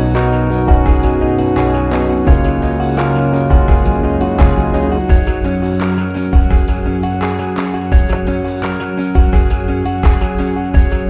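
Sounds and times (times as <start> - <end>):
plucked guitar: 0.0 - 11.0
steady beat and bass: 0.0 - 11.0.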